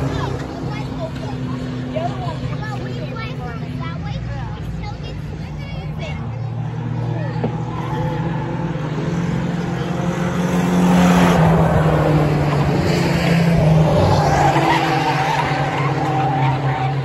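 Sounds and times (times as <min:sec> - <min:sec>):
race truck engines passing: 0:00.0 - 0:17.0.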